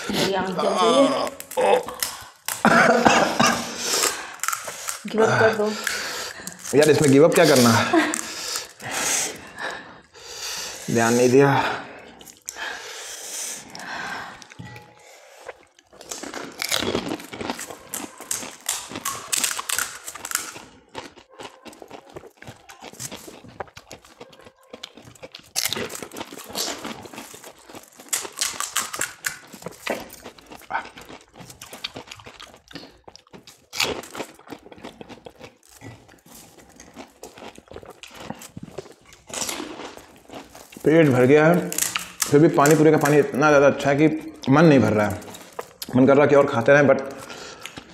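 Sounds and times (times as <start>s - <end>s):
chewing: 0.0s - 46.1s, 47.0s - 47.9s
crisp shells cracking and crunching: 1.1s - 2.8s, 3.8s - 9.0s, 15.7s - 47.9s.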